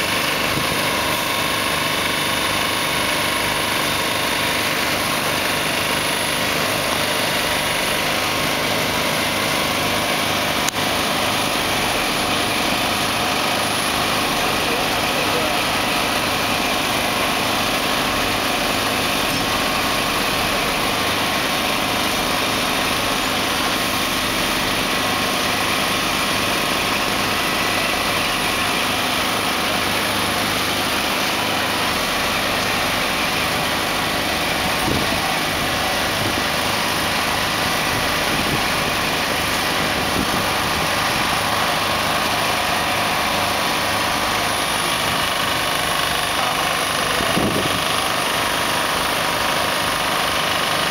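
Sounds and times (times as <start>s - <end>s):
truck diesel engine at low revs: 0.0s - 50.9s.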